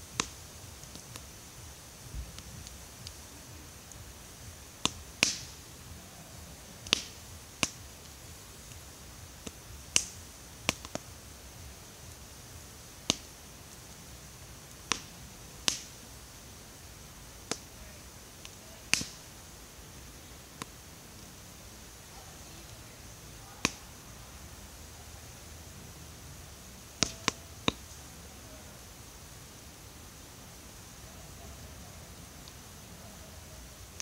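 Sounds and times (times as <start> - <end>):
faint steady high hiss: 0.0 - 34.0
wood fire crackling: 0.0 - 34.0.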